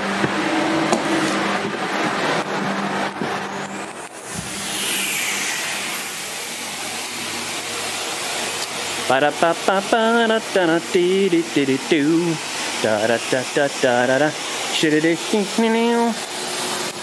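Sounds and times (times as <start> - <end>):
dust extractor fan rushing: 0.0 - 17.0
high whine: 0.0 - 17.0.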